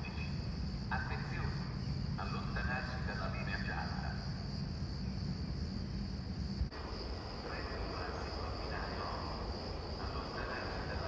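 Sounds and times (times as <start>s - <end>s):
crickets chirping: 0.0s - 11.0s
low background rumble: 0.0s - 11.0s.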